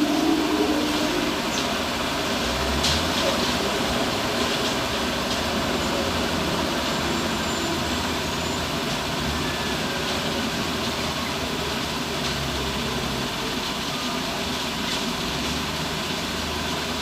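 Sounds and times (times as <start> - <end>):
diesel machinery engine drone: 0.0 - 17.0.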